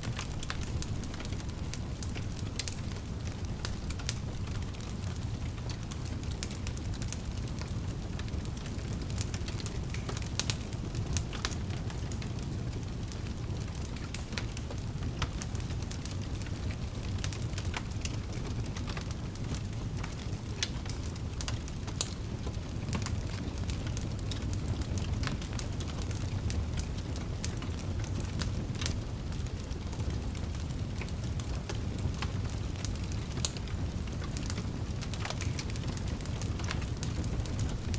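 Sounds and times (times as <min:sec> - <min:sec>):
fire crackling and popping: 0:00.0 - 0:37.9
fire rumbling: 0:00.0 - 0:37.9.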